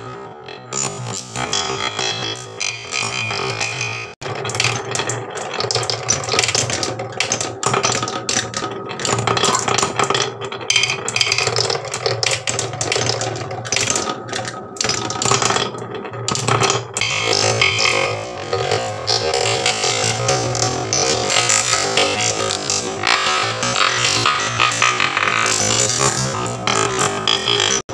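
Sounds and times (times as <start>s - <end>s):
marbles rattling on wooden tracks: 2.4s - 27.8s.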